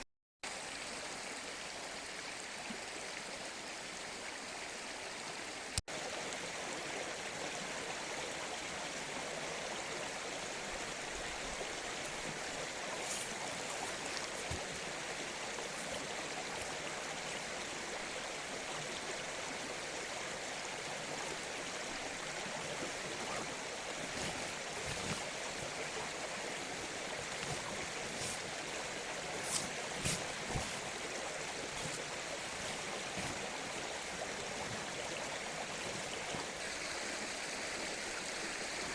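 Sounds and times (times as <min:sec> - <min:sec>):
mountain stream flowing: 0:00.4 - 0:38.9.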